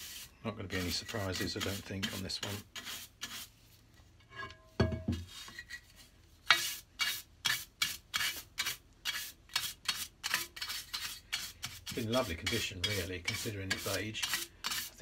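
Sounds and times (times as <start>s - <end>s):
stiff brush scrubbing metal: 0.0s - 3.6s, 6.4s - 15.0s.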